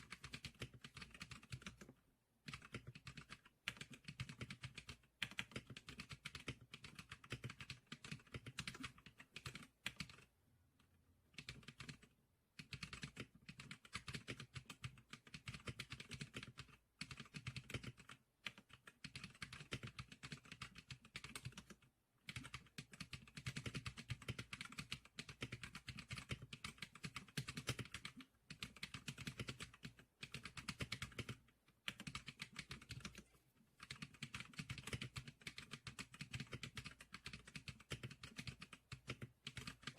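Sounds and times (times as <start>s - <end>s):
fast keyboard typing: 0.0s - 10.3s, 11.2s - 39.9s.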